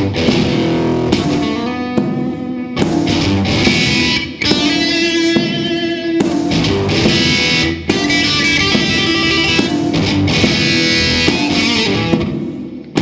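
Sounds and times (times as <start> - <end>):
blues guitar playing: 0.0 - 13.0.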